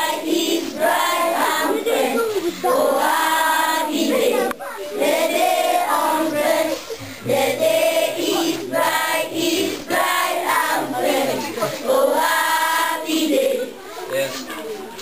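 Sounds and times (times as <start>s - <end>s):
children singing together: 0.0s - 14.7s.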